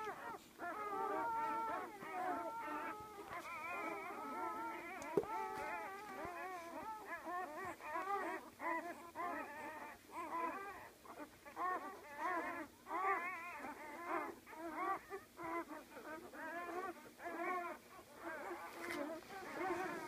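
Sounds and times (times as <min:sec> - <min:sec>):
puppies squealing and whimpering: 0:00.0 - 0:20.0.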